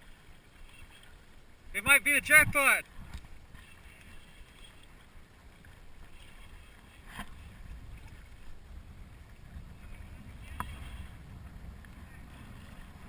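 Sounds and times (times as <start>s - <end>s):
low rumble of wind: 0.0s - 13.0s.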